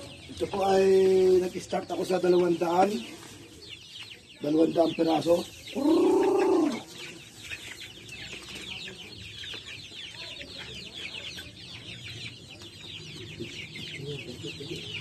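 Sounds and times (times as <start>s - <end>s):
chicks cheeping: 0.0s - 15.0s.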